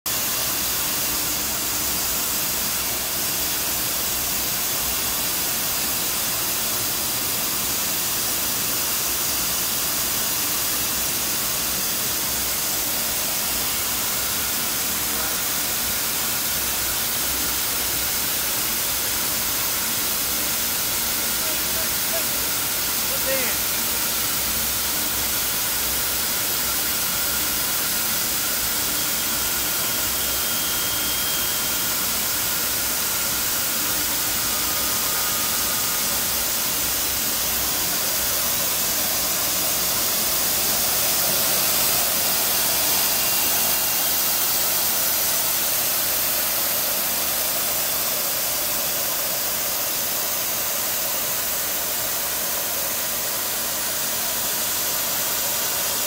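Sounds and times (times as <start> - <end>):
machinery hissing: 8.6 - 56.0.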